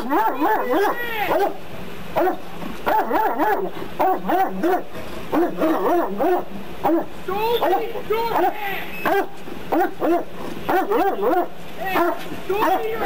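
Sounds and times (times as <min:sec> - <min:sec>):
dog barking: 0:00.0 - 0:01.6, 0:02.2 - 0:13.0.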